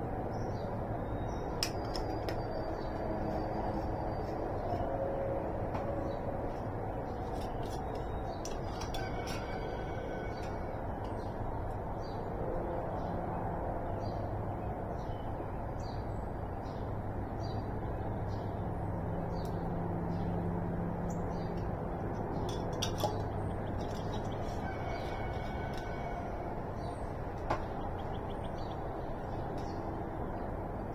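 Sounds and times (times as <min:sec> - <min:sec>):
birds chirping: 0:00.3 - 0:30.9.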